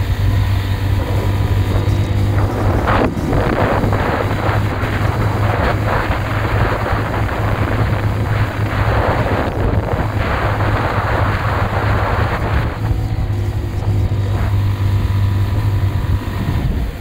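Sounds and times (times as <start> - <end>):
motorcycle engine cruising: 0.0 - 17.0
wind noise on microphone: 0.0 - 17.0.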